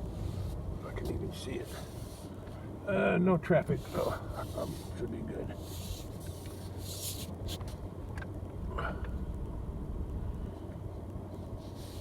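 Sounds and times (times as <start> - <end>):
car engine low hum: 0.0 - 12.0.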